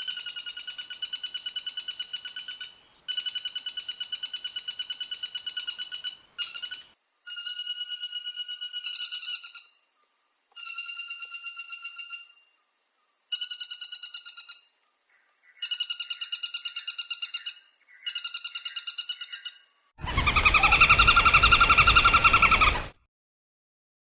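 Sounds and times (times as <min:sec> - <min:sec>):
woodpecker rattling call: 0:00.0 - 0:09.7, 0:13.3 - 0:23.0.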